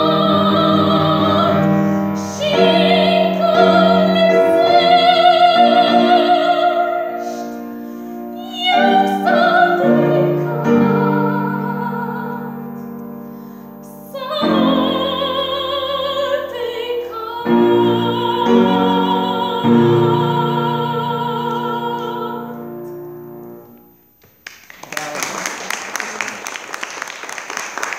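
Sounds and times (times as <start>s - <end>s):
grand piano accompaniment: 0.0s - 24.0s
soprano singing: 0.0s - 24.0s.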